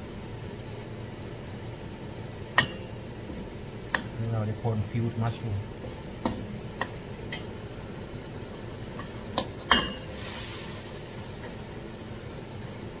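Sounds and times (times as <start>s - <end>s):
mushrooms sizzling: 0.0s - 13.0s.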